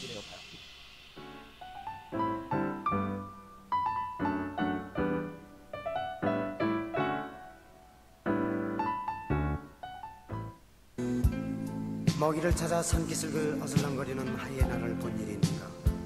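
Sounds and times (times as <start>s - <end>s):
piano chords and notes: 0.0s - 16.0s.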